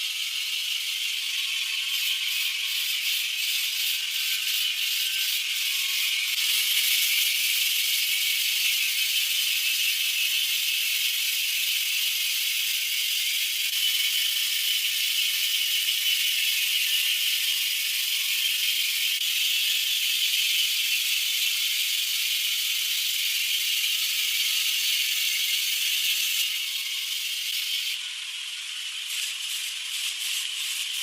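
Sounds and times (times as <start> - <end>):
mechanical whir with rattle: 0.0 - 31.0.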